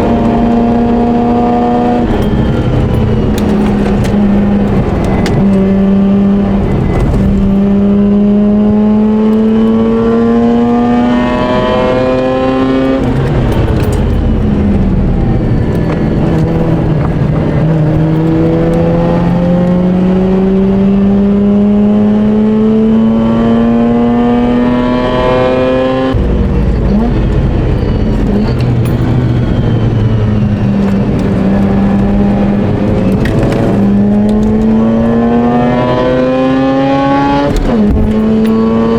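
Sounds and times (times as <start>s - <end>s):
rotary engine accelerating: 0.0s - 38.9s.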